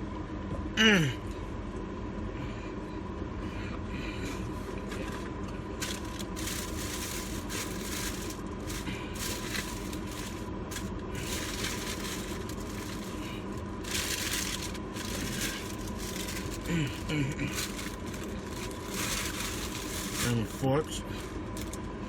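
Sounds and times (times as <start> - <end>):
steady low rumble: 0.0 - 22.0
rustling and crinkling handling noise: 4.1 - 22.0.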